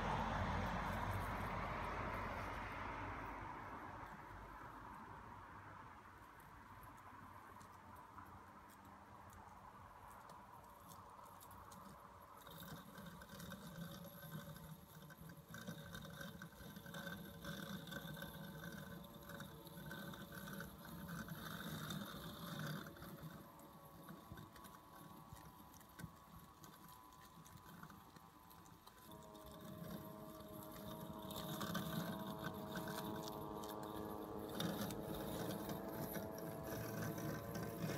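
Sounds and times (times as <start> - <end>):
robotic lawnmower motor whirring: 0.0 - 3.4, 10.1 - 37.9.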